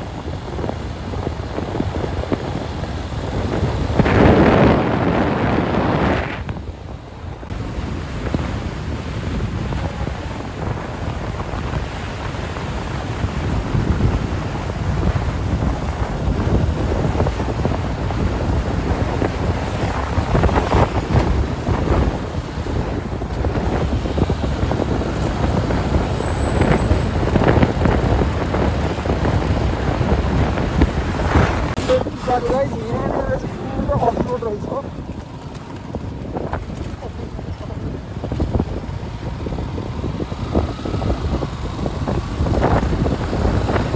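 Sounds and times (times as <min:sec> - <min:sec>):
motorbike low rumble: 0:00.0 - 0:43.9
wind buffeting microphone: 0:00.0 - 0:43.9.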